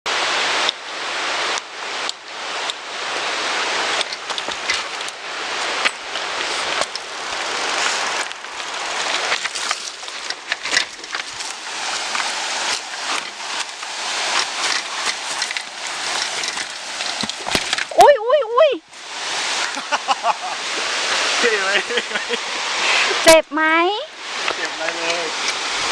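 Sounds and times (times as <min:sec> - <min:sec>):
waterfall rushing: 0:00.1 - 0:25.9.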